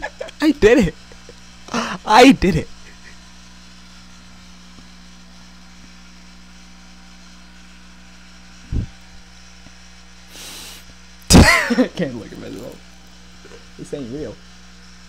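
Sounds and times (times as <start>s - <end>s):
microphone electrical hum and hiss: 0.0s - 15.0s.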